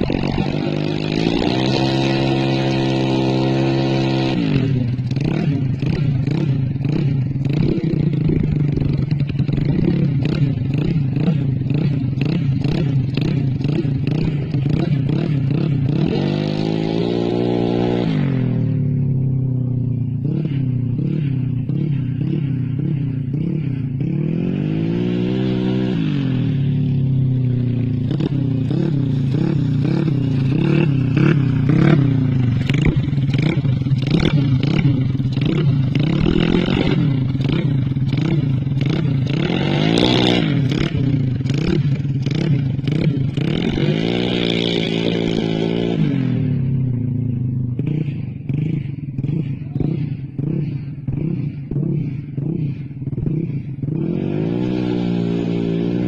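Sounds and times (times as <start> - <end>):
scooter engine revving: 0.0 - 56.0.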